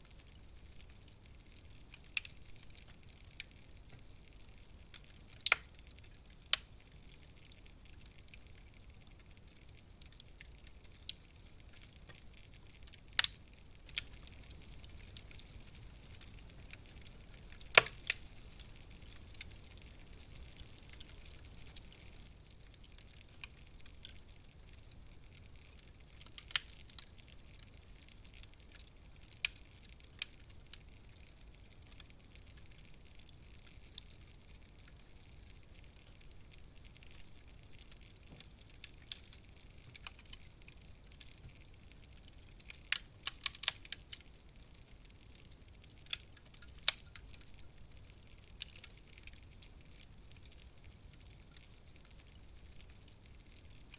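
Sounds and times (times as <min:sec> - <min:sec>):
faint low hiss: 0:00.0 - 0:53.9
wood fire crackling: 0:00.0 - 0:53.9.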